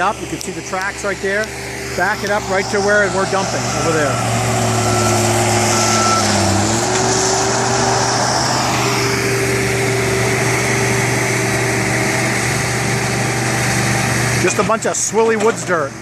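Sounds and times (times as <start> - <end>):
heavy machinery diesel engines: 0.0 - 16.0.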